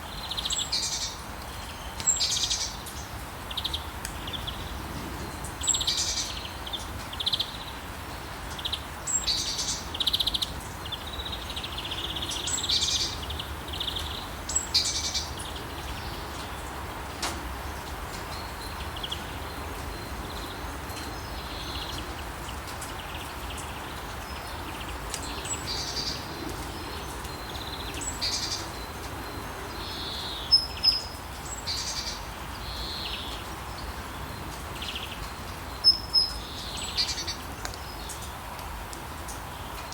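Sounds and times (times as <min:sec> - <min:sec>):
birds singing and chirping: 0:00.0 - 0:17.0, 0:17.6 - 0:38.4
steady rain: 0:00.0 - 0:39.9.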